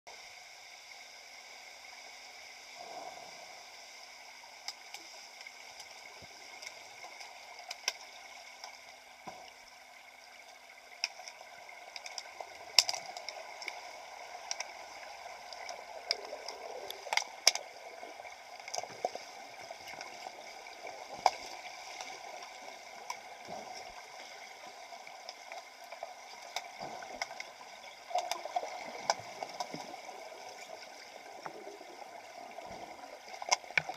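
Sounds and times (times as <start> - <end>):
underwater hiss: 0.1 - 10.0, 11.4 - 33.6
gurgling water: 1.8 - 33.9.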